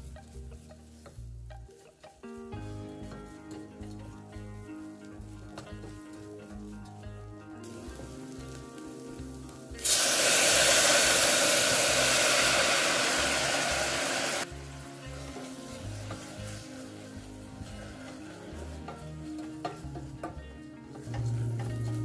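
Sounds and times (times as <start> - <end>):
wooden spoon stirring: 0.0 - 12.6, 13.2 - 22.0
loud sizzling in a saucepan: 0.0 - 22.0.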